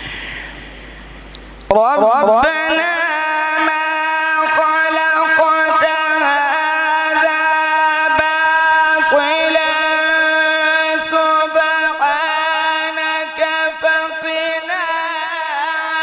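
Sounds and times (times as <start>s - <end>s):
man reciting melodically: 1.7s - 16.0s.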